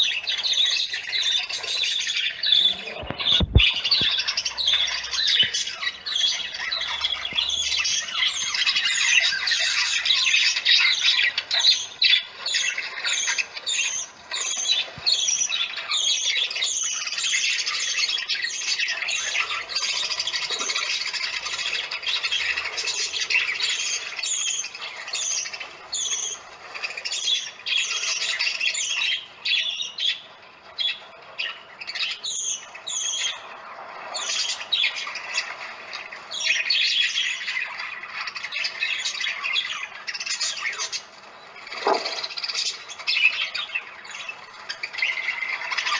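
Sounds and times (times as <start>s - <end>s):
parakeets screeching: 0.0s - 45.9s.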